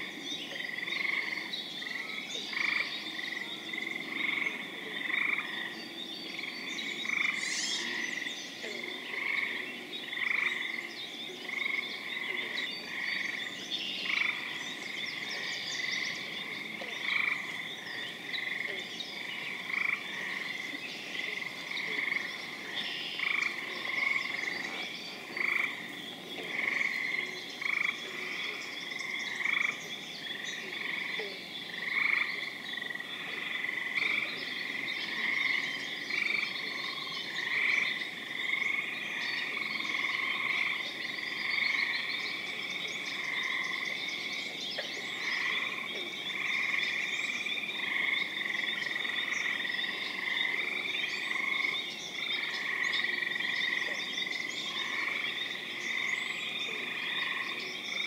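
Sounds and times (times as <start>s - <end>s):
treefrogs trilling: 0.0s - 58.0s.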